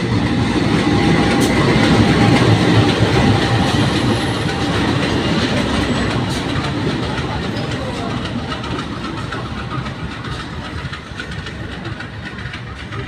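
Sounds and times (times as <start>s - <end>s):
passenger train on rails: 0.0s - 13.0s.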